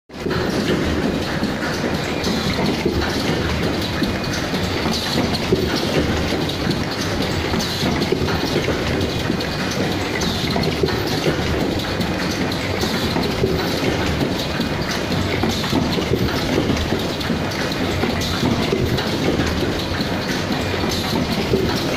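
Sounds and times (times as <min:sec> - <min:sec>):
production line mechanical clatter: 0:00.1 - 0:21.9.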